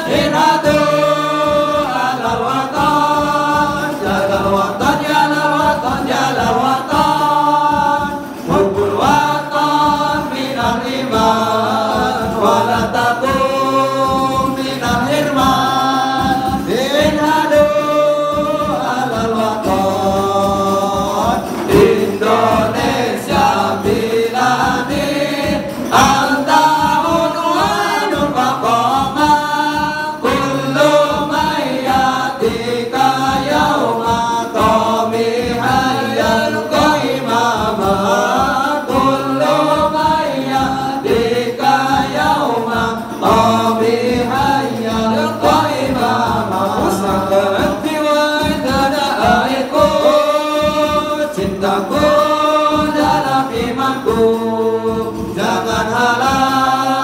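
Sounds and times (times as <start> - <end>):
men singing in unison: 0.0 - 57.0.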